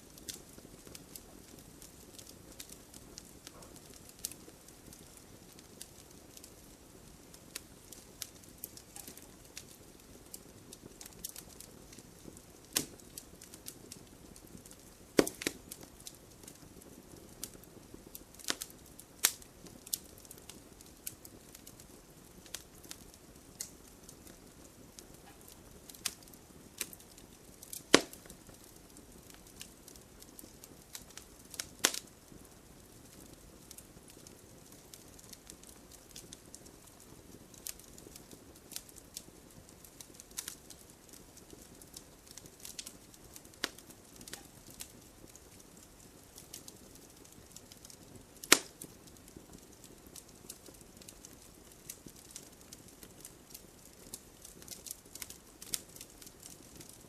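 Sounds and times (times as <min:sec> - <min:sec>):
fire hissing: 0:00.0 - 0:45.4, 0:46.2 - 0:57.0
wood fire pops and snaps: 0:00.0 - 0:57.0.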